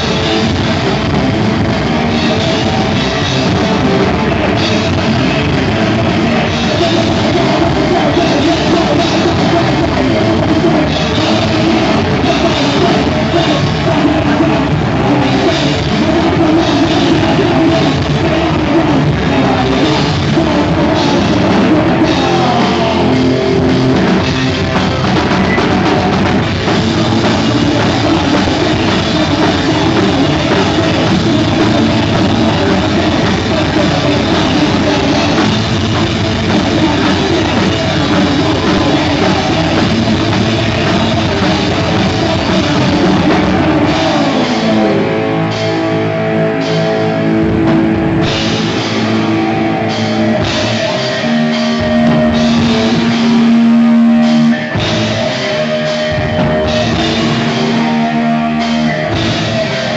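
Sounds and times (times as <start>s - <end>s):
bass guitar: 0.0s - 59.9s
distorted guitars: 0.0s - 59.9s
drum kit: 0.0s - 59.9s.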